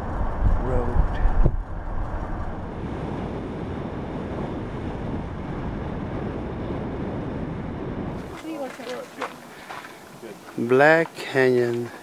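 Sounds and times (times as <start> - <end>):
car road and wind noise: 0.0 - 11.1.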